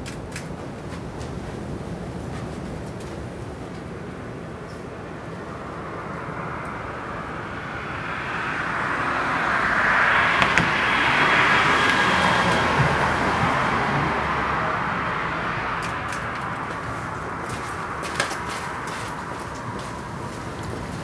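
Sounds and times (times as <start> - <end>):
vehicle passing: 4.0 - 21.0.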